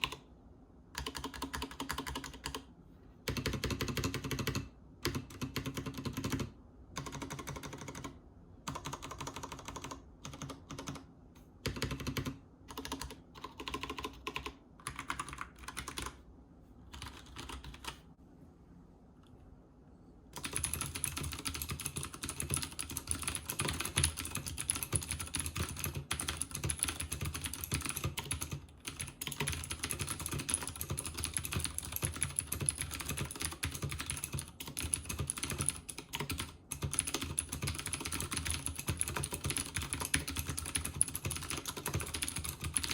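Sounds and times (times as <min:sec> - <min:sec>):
clicky mechanical keyboard typing: 0:00.0 - 0:00.3, 0:00.9 - 0:16.2, 0:16.9 - 0:18.0, 0:20.3 - 0:42.9.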